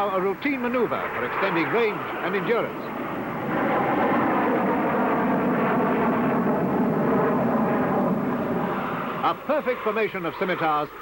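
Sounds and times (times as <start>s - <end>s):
jet engines in flight: 0.0s - 11.0s.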